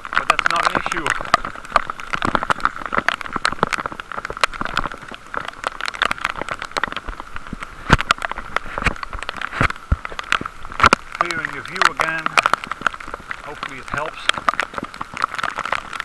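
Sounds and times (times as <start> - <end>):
raindrops tapping: 0.0 - 16.0
steady hiss of rain: 0.0 - 16.0.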